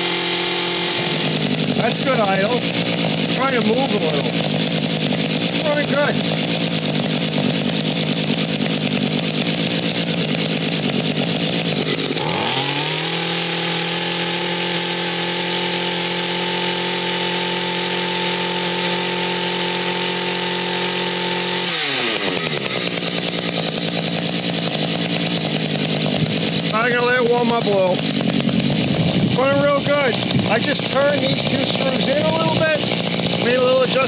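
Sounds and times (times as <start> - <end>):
tiller engine idling and revving: 0.0 - 34.0.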